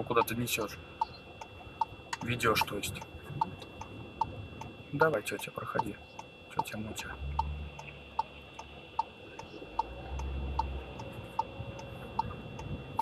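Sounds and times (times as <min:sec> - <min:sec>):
low engine hum: 0:00.0 - 0:13.0
turn signal ticking: 0:00.0 - 0:13.0.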